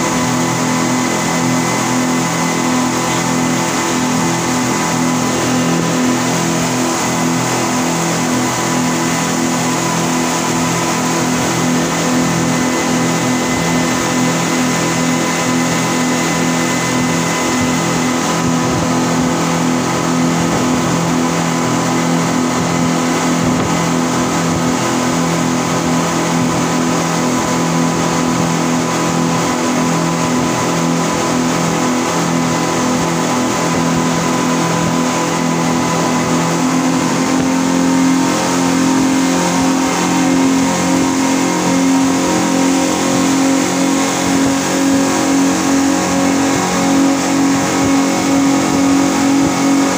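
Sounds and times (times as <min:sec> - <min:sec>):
outboard motors droning: 0:00.0 - 0:49.9
water rushing from wake: 0:00.0 - 0:49.9.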